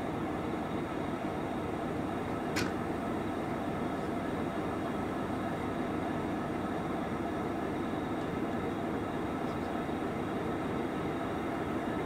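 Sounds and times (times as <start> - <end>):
locomotives idling: 0.0 - 12.0.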